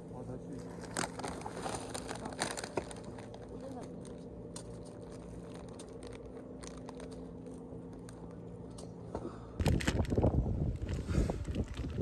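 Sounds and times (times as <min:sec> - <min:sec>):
steady low hum: 0:00.0 - 0:12.0
crunching and crinkling snack: 0:00.5 - 0:08.9, 0:09.6 - 0:12.0.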